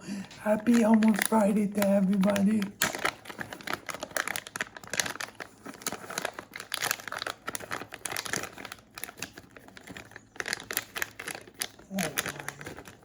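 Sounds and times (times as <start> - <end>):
plastic wrapper crinkling: 0.1 - 13.0.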